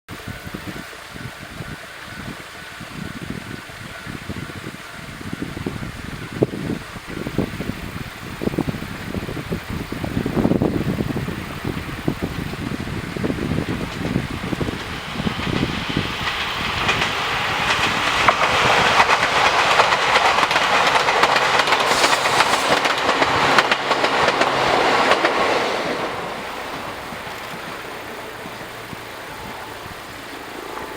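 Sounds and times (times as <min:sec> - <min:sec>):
electric train passing: 0:00.1 - 0:30.9
wheels clacking over rail joints: 0:00.2 - 0:30.9.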